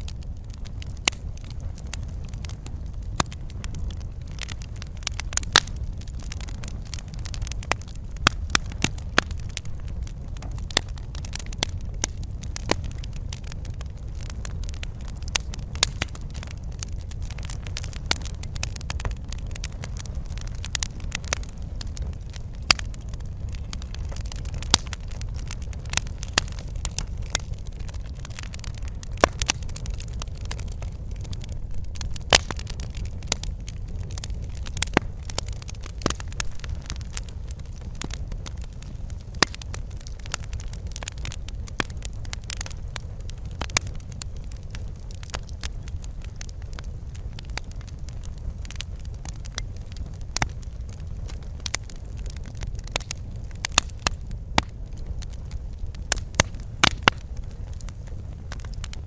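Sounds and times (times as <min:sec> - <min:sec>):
fire pops and snaps: 0:00.0 - 0:59.0
low rumble of flames: 0:00.0 - 0:59.0.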